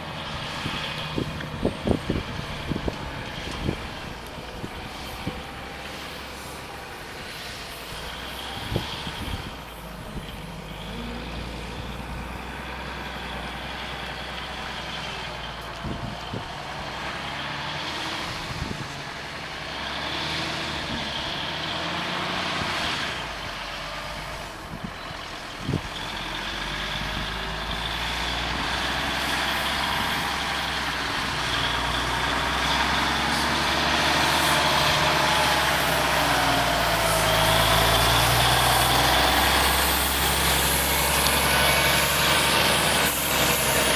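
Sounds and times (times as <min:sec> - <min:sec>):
truck diesel engine idling: 0:00.0 - 0:43.9.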